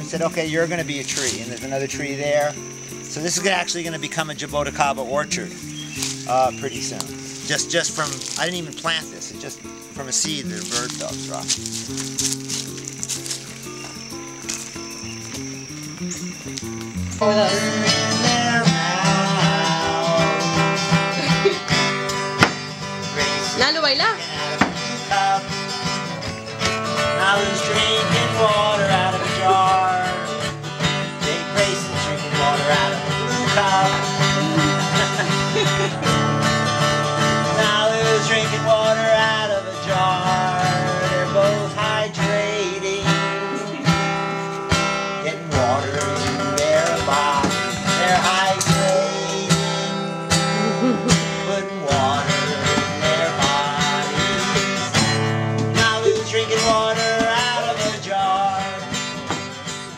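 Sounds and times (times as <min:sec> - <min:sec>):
country acoustic guitar music: 0:00.0 - 0:59.9.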